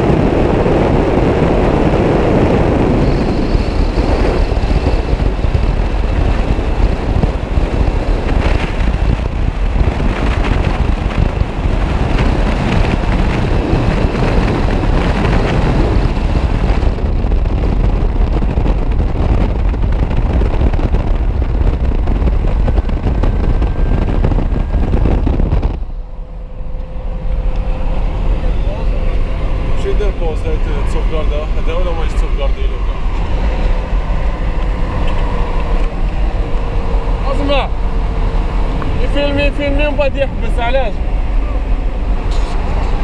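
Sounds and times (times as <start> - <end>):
off-road vehicle engine rumble: 0.0 - 43.0
wind rushing over camera: 0.0 - 43.0.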